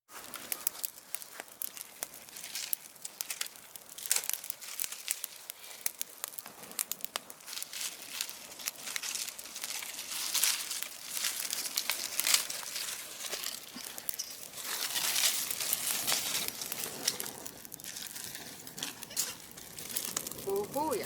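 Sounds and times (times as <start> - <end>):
bonfire crackling: 0.0 - 21.0.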